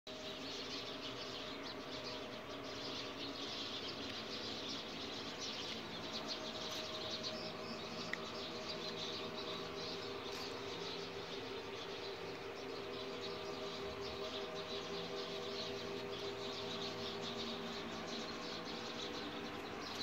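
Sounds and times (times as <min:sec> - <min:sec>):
small birds chirping: 0:00.1 - 0:20.0
steady low hum: 0:00.1 - 0:20.0.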